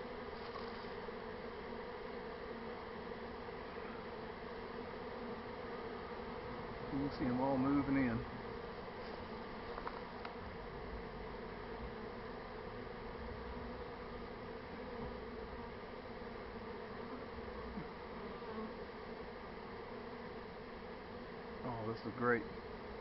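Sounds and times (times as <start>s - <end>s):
bee swarm humming: 0.0s - 23.0s.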